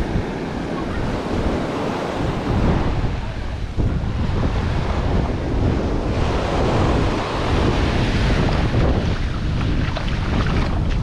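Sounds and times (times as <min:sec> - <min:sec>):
waves washing up sand: 0:00.0 - 0:11.0
wind buffeting microphone: 0:00.0 - 0:11.0.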